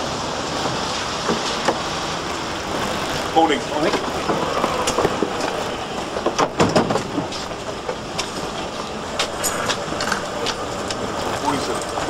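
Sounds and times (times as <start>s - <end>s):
outdoor street noise: 0.0s - 12.0s.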